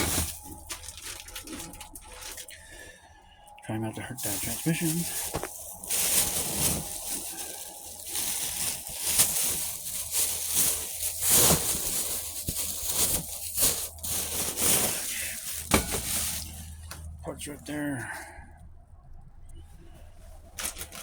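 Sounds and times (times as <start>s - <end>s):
plastic bag rustling and crinkling: 0.0s - 2.8s, 4.1s - 17.1s, 20.0s - 21.0s.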